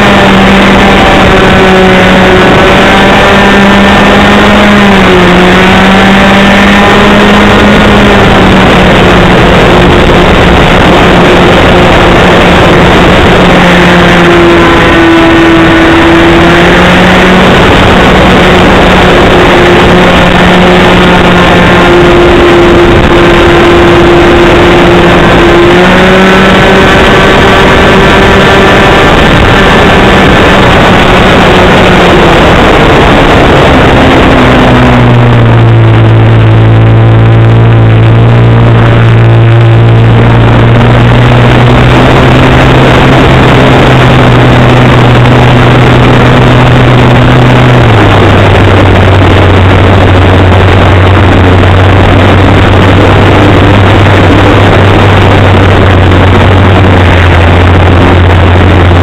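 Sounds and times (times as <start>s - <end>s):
model airplane engine running: 0.0s - 59.0s
rushing air noise: 0.0s - 59.0s.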